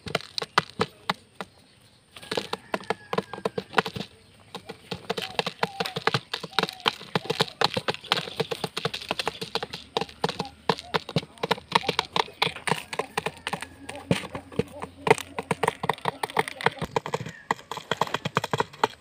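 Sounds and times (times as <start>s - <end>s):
pigeons pecking plastic jar: 0.0s - 19.0s.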